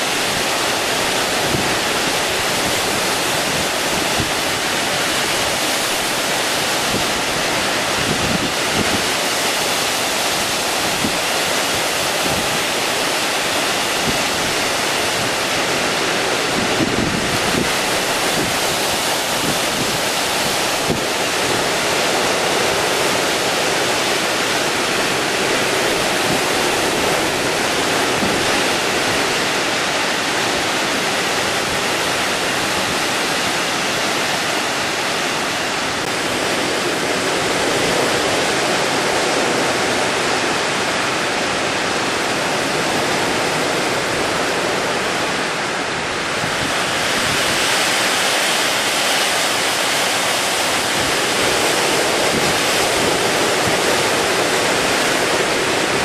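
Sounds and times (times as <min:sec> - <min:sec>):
heavy surf: 0:00.0 - 0:56.0
storm wind: 0:00.0 - 0:56.0
wind striking microphone: 0:00.0 - 0:56.0.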